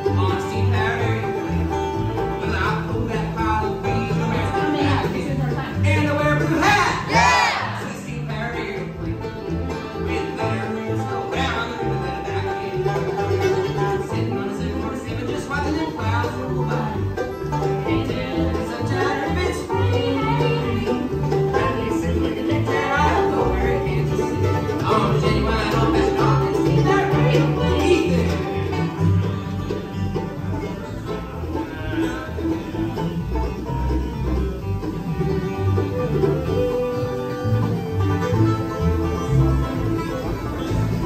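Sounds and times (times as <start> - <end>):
banjo: 0.0 - 41.0
bluegrass band playing: 0.0 - 41.0.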